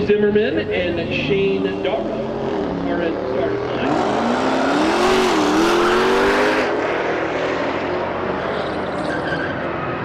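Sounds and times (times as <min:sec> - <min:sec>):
drag cars accelerating: 0:01.0 - 0:10.0.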